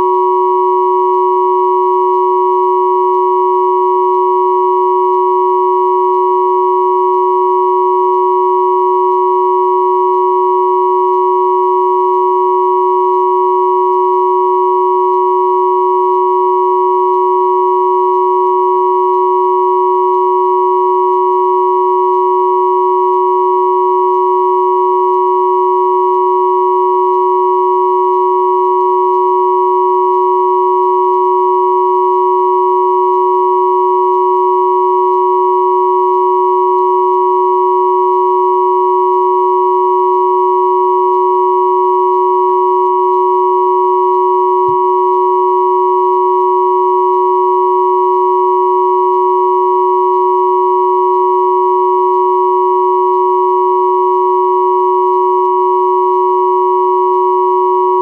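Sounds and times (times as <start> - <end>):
electronic sine tone chord: 0.0 - 58.0.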